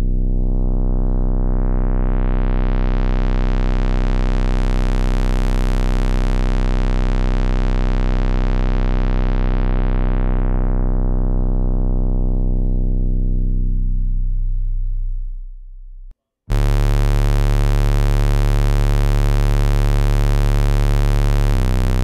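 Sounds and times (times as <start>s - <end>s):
synthesizer bass drone filter sweep: 0.0s - 14.7s, 16.5s - 22.0s.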